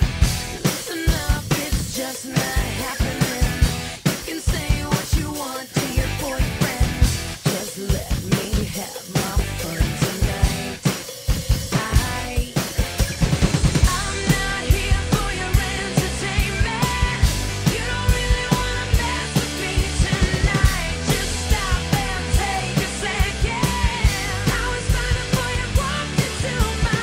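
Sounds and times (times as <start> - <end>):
drum kit playing: 0.0 - 27.0
recorded pop-rock song: 0.0 - 27.0.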